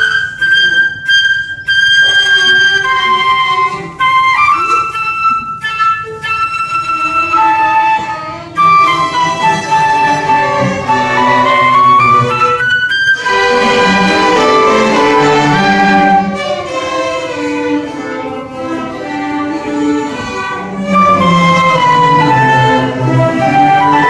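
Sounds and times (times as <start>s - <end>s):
orchestra with bowed strings: 0.0s - 24.0s.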